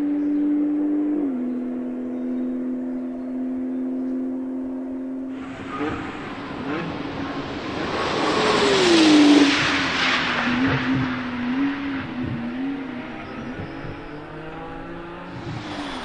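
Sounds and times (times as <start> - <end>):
sports car passing at speed: 0.0 - 16.0.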